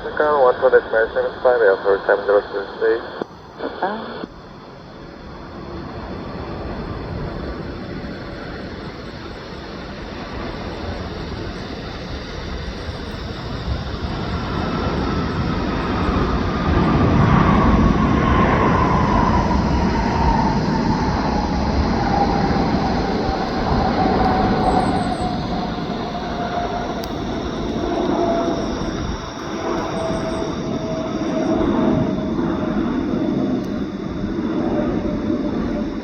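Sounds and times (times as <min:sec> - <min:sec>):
jet airliner passing by: 0:00.0 - 0:36.0.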